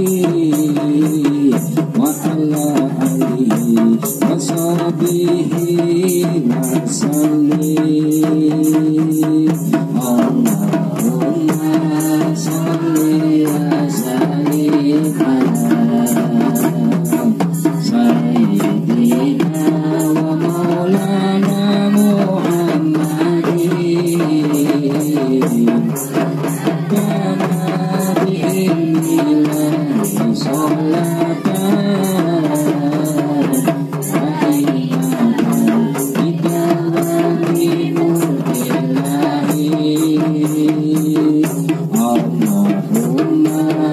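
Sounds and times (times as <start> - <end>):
frame drums struck by hand: 0.0 - 43.9
women singing devotional songs: 0.0 - 43.9.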